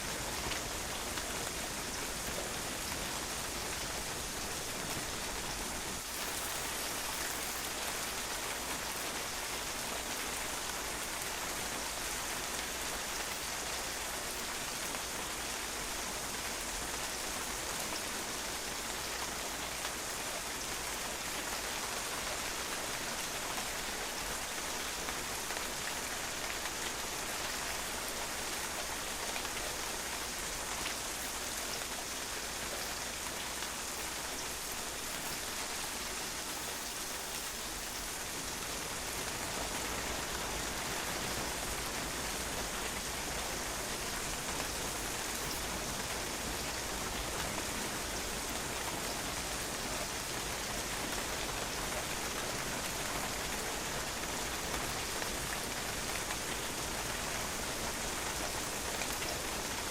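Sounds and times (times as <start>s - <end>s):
rain falling on a patio: 0.0s - 59.9s.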